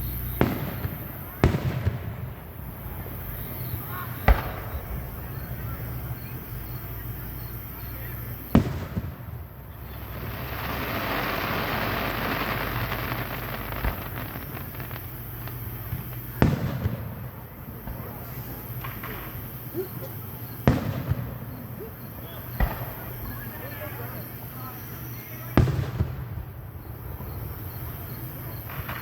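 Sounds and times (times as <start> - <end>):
firework bangs: 0.0 - 29.0
firework hissing: 0.0 - 29.0.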